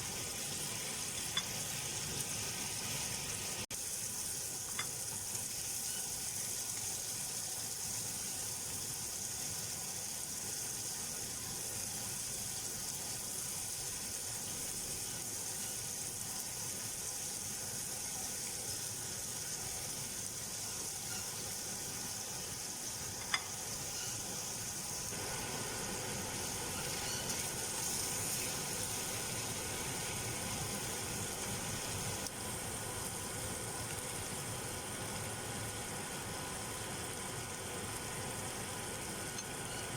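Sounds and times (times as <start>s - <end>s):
beef sizzling in a pan: 0.0s - 39.9s.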